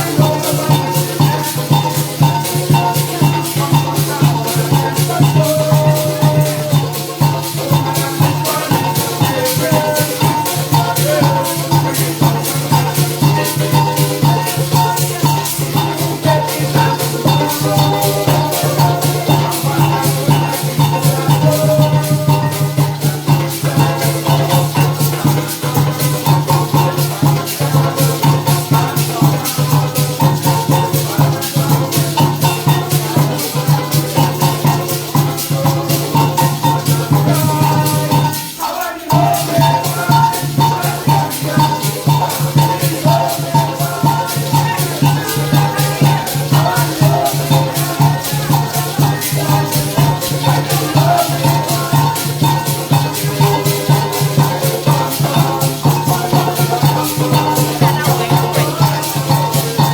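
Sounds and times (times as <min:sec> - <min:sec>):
live band music: 0:00.0 - 0:59.9
maracas shaking: 0:00.0 - 0:59.9.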